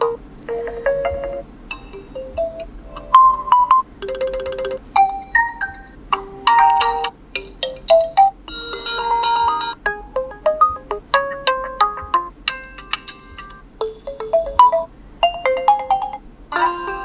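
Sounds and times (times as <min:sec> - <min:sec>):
electronic ringtone melodies: 0:00.0 - 0:17.0.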